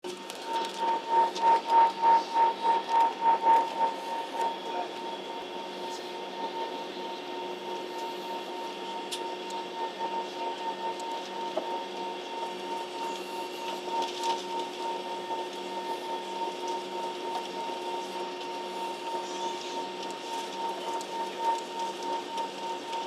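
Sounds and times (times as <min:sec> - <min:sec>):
airliner cabin hum: 0:00.0 - 0:22.7
constant whine: 0:00.0 - 0:23.0.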